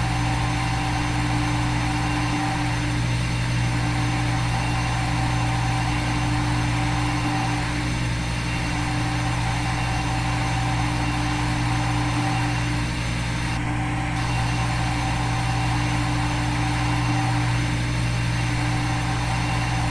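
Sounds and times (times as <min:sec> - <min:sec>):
machine hum with fixed tones: 0:00.0 - 0:19.9.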